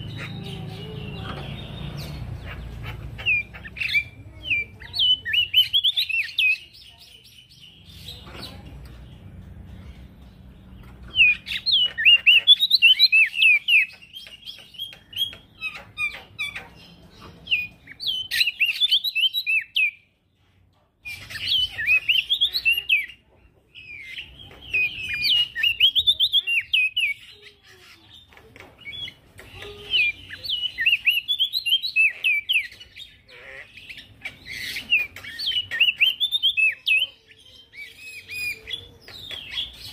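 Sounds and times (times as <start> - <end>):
bird singing chirping notes: 0.0 - 20.1, 21.1 - 28.2, 28.8 - 39.9.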